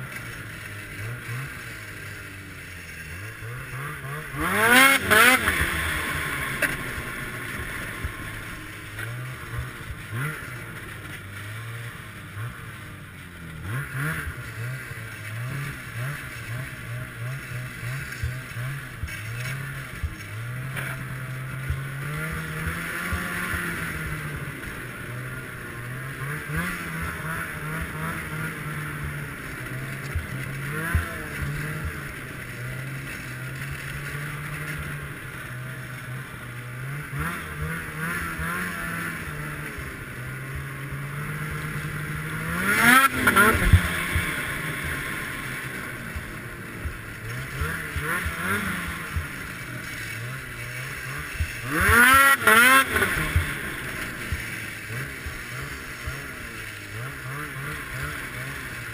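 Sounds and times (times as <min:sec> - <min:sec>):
snowmobile engine revving: 0:00.0 - 0:58.9.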